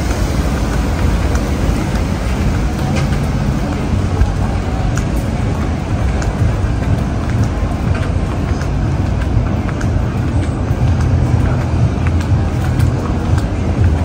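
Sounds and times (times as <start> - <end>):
low outdoor rumble: 0.0 - 14.0
noisy hiss: 0.0 - 14.0.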